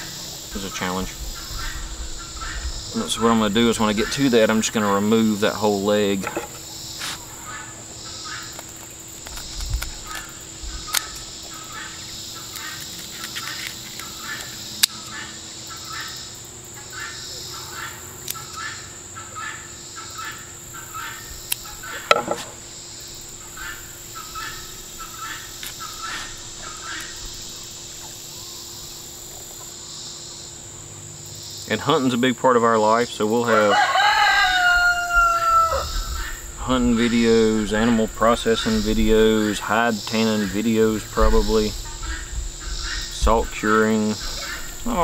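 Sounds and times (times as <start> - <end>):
crickets shrilling: 0.0 - 45.0.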